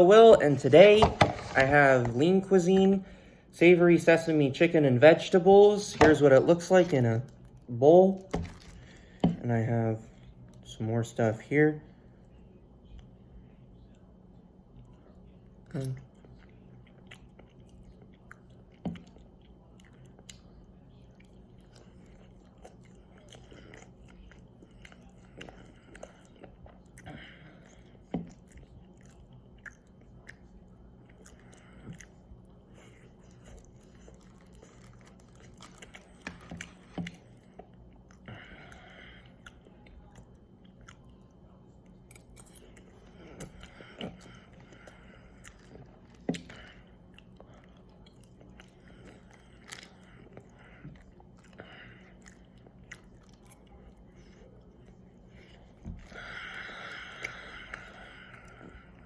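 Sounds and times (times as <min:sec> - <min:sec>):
person chewing food: 0:06.0 - 0:09.4, 0:13.8 - 0:59.0.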